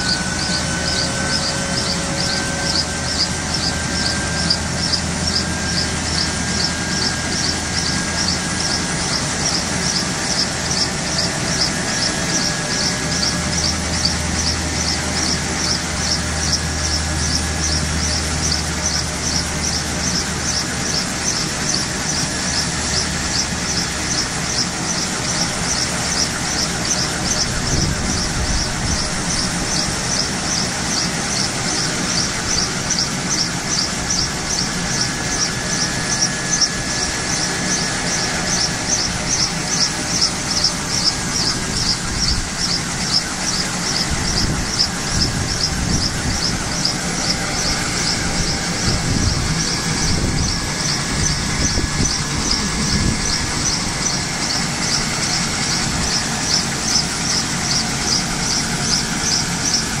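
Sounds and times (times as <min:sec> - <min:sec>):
high-pitched rhythmic chirp: 0:00.0 - 0:59.9
helicopter rushing noise: 0:00.0 - 1:00.0.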